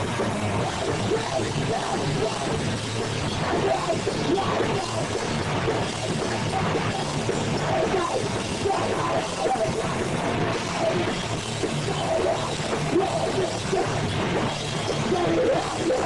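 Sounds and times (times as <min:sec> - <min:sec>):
drum kit with crashing cymbals: 0:00.0 - 0:16.0
electric guitar through amplifier: 0:00.0 - 0:16.0.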